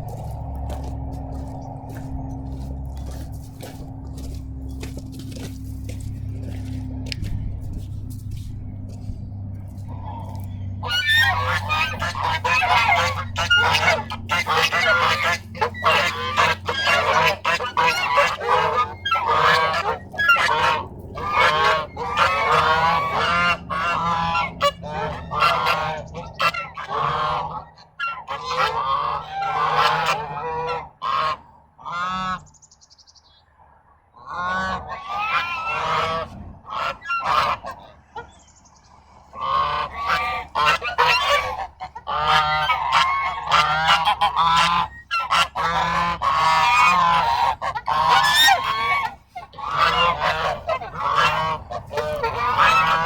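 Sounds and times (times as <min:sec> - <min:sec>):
geese honking: 0:00.0 - 0:32.7, 0:34.1 - 0:53.0.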